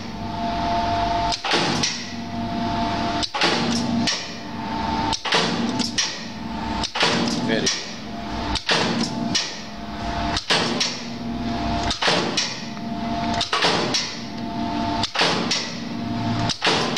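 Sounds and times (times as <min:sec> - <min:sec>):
motor and flywheel hum: 0:00.0 - 0:16.9.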